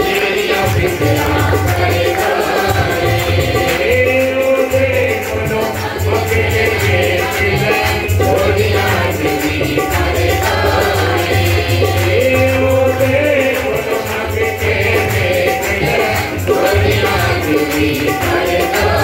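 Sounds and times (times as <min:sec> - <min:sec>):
man singing: 0:00.0 - 0:09.9, 0:11.8 - 0:19.0
harmonium: 0:00.0 - 0:19.0
tabla drumming: 0:00.0 - 0:19.0.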